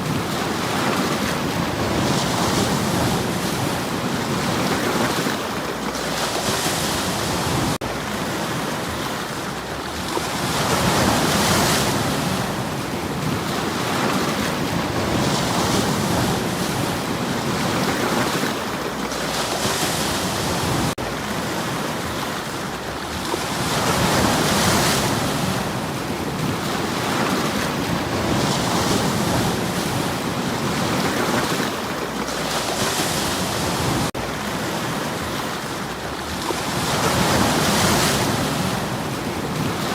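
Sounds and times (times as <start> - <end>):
waves washing over stones: 0.0 - 39.9.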